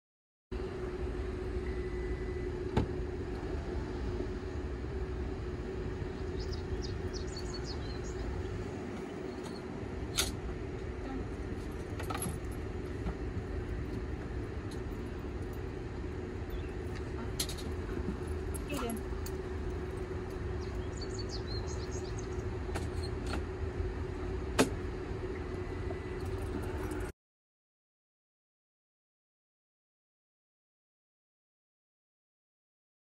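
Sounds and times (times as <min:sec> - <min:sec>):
low rumble and hum: 0:00.5 - 0:27.1.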